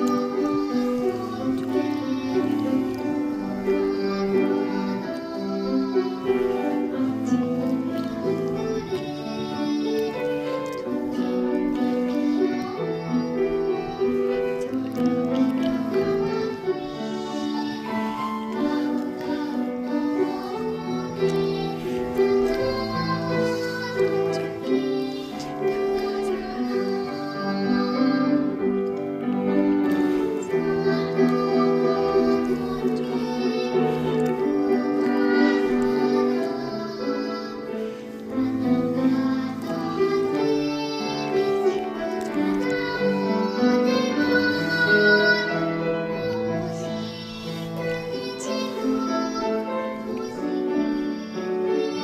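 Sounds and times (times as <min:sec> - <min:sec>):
children's choir singing: 0:00.0 - 0:52.0
piano accompaniment: 0:00.0 - 0:52.0.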